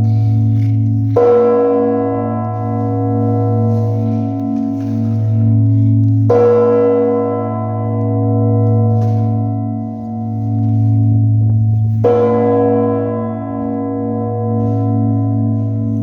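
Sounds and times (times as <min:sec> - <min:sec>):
deep church bell ringing: 0:00.0 - 0:16.0.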